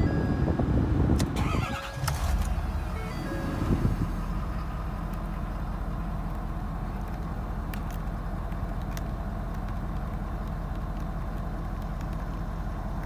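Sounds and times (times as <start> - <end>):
diesel engine idling: 0.6 - 13.0.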